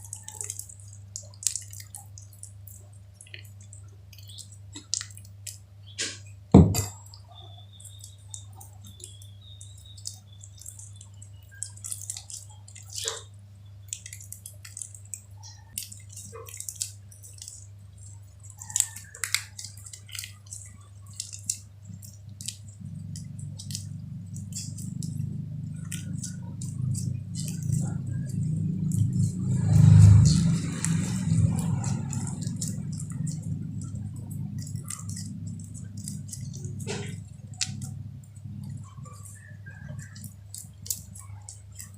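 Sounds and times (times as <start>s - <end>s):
wet sticky clicks and pops: 0.0s - 41.9s.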